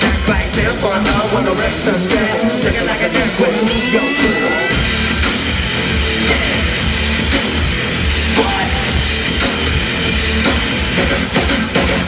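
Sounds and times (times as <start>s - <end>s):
distorted guitar: 0.0s - 12.0s
heavy drums: 0.0s - 12.0s
pulsing bass beat: 0.0s - 12.0s
rock band playing: 0.0s - 12.0s.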